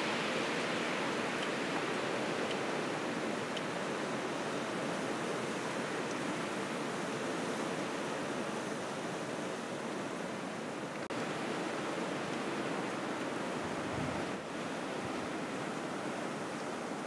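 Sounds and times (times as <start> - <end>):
blizzard wind through trees: 0.0 - 17.0.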